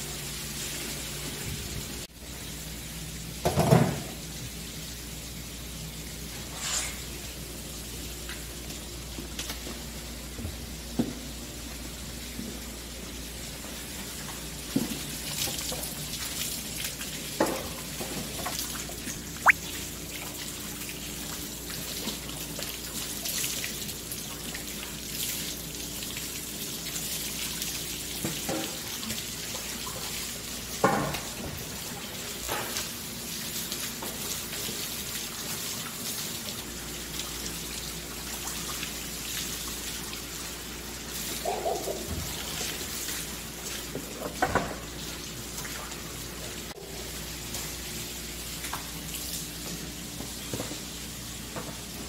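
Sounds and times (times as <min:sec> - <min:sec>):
tap water running: 0:00.0 - 0:52.0.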